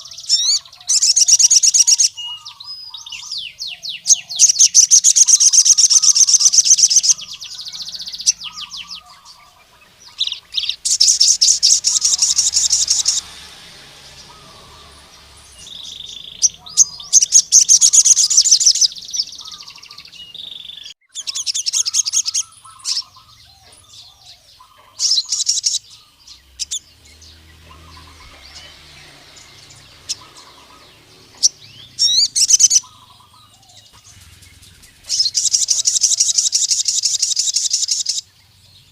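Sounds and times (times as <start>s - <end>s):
bird singing rapid high trills: 0.0s - 38.9s
faint lower bird chirps: 0.0s - 38.9s.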